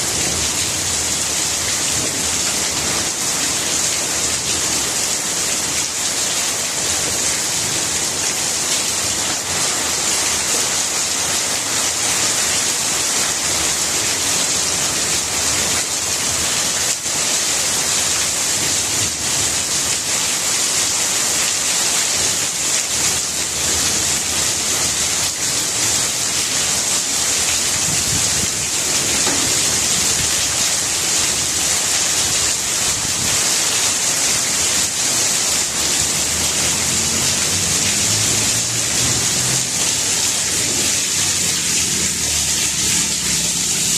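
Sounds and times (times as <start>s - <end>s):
rain falling on leaves: 0.0s - 43.9s.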